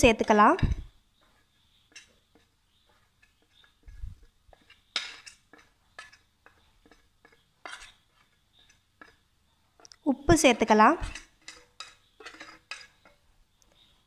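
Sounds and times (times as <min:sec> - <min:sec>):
spoon scraping and tapping steel: 0:00.0 - 0:13.3.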